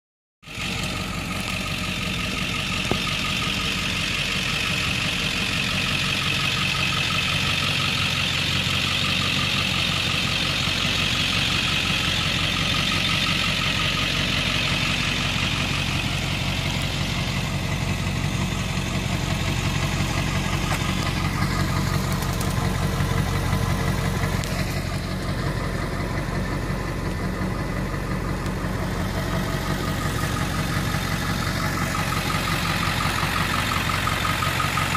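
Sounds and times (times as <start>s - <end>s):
diesel engine idling: 0.4s - 34.9s.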